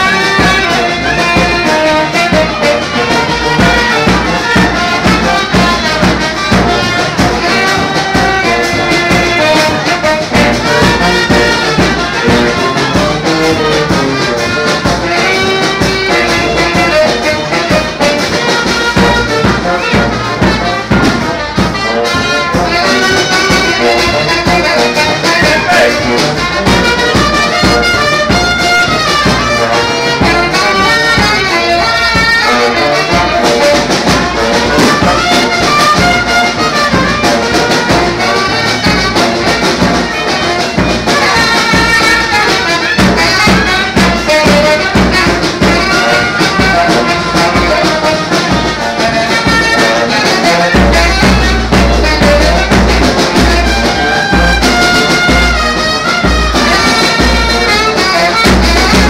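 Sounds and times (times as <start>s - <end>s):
live band with brass: 0.0s - 59.0s.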